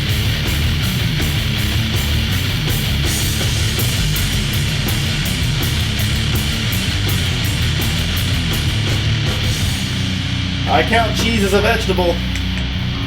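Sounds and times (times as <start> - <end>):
heavy rock music: 0.0 - 13.0.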